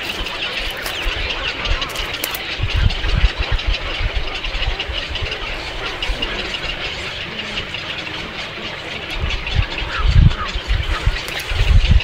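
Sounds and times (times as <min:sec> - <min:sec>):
small birds chirping: 0:00.0 - 0:12.0
wind buffeting microphone: 0:00.0 - 0:12.0.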